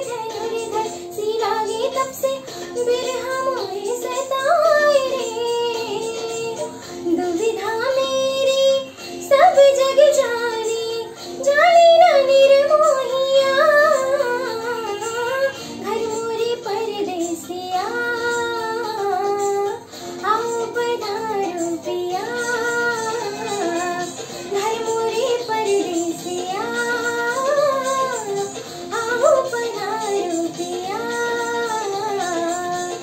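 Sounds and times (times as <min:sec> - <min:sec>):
girl singing: 0:00.0 - 0:33.0.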